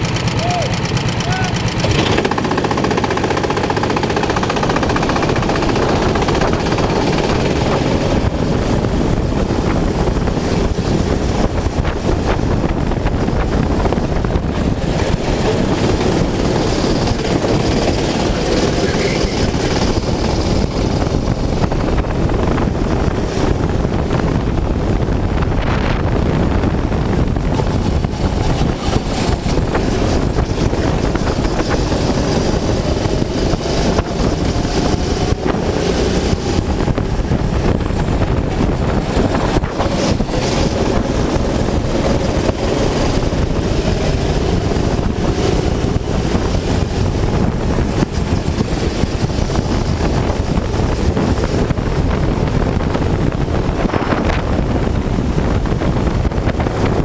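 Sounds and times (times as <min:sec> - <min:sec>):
go-kart engine running: 0:00.0 - 0:57.0
wind noise on microphone: 0:00.0 - 0:57.0.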